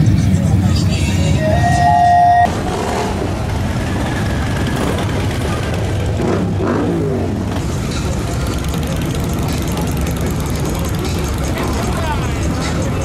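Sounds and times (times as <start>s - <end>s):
motorcycle engines rumbling: 0.0s - 13.0s
motorcycle engine revving: 1.4s - 13.0s.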